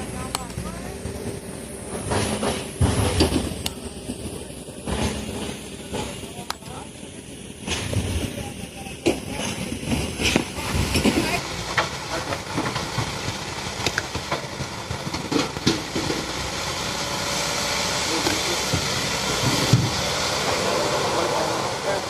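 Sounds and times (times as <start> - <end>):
excavator machinery running: 0.0 - 22.0.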